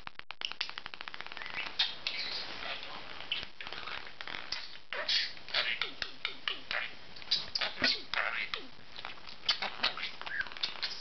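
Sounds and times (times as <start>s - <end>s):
budgerigar chirping and chattering: 1.4s - 8.7s, 9.4s - 11.0s.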